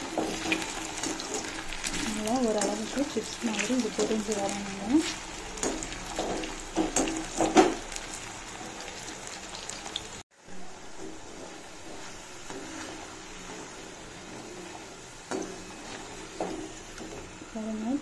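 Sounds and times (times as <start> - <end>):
skimmer scraping against pan: 0.0 - 7.9, 10.6 - 18.0
banana deep-frying sizzle: 0.0 - 18.0.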